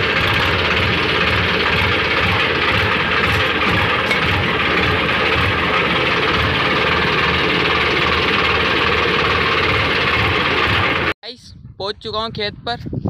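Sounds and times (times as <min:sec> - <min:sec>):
tractor diesel engine running: 0:00.0 - 0:11.2.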